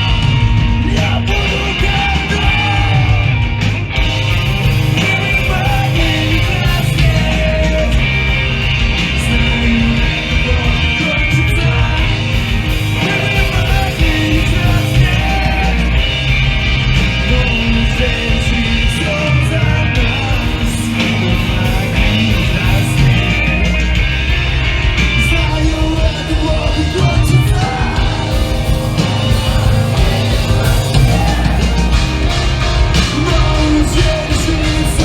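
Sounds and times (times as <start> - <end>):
distorted electric guitars: 0.0 - 35.0
drums: 0.0 - 35.0
live hardcore band playing loud: 0.0 - 35.0.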